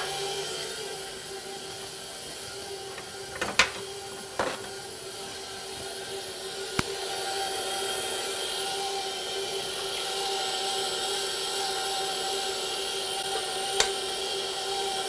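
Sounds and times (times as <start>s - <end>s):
stand mixer motor whine: 0.0s - 15.0s.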